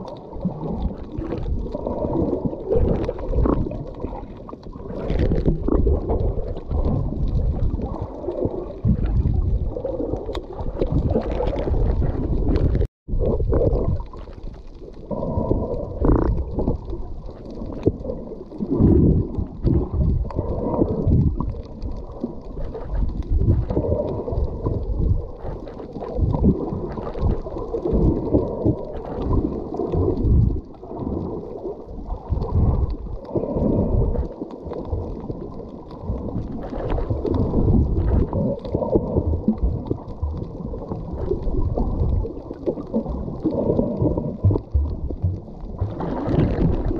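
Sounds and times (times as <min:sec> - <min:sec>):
underwater churning rumble: 0:00.0 - 0:46.9.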